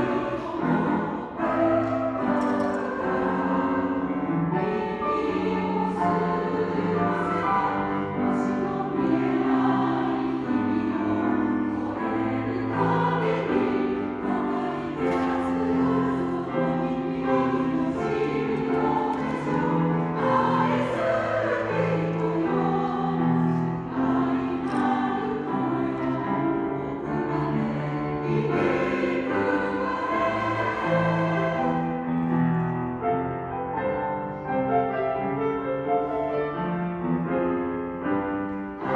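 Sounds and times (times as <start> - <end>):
choir singing: 0.0 - 38.9
piano accompaniment: 0.0 - 38.9.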